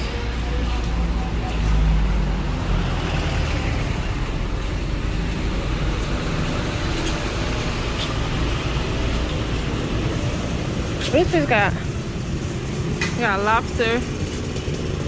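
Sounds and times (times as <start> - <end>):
steady road noise: 0.0 - 15.0
vehicle rumble: 0.0 - 15.0.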